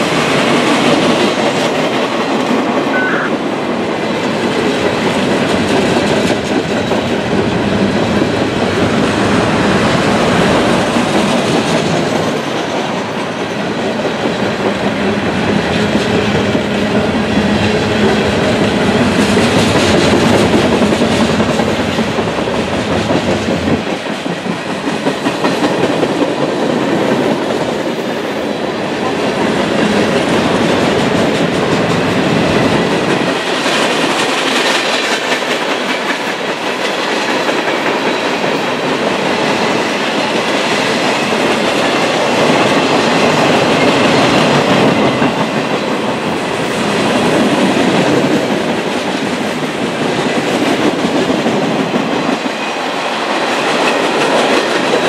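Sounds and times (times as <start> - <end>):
steel wheels on rail: 0.0 - 55.0.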